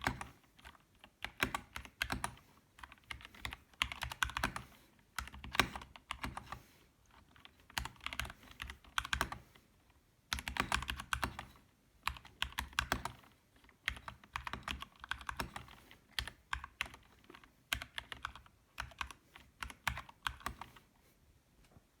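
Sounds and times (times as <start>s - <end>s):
mechanical keyboard typing: 0.0s - 6.6s, 7.2s - 9.5s, 10.3s - 20.8s.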